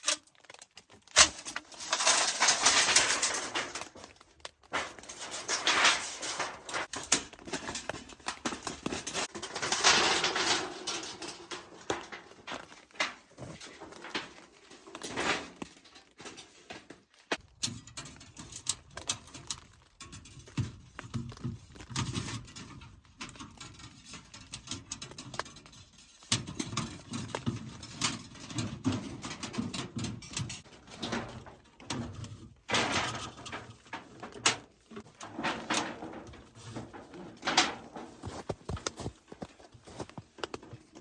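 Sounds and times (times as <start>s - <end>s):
rustling: 0.1s - 41.0s.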